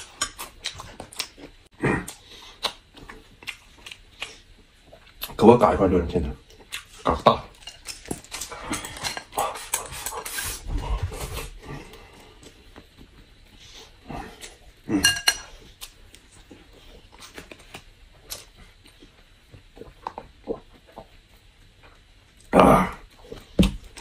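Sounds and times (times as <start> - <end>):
chewing: 0.0 - 5.4, 6.4 - 14.8, 15.4 - 22.5.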